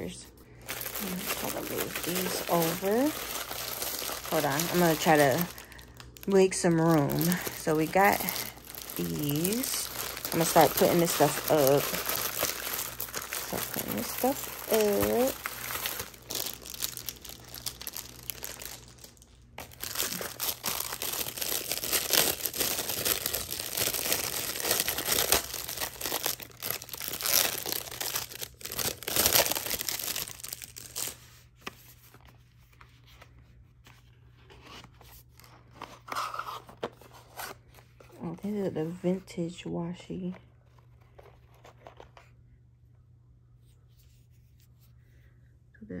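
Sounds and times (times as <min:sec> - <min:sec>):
packaging crinkling and rustling: 0:00.5 - 0:38.5, 0:40.2 - 0:42.4.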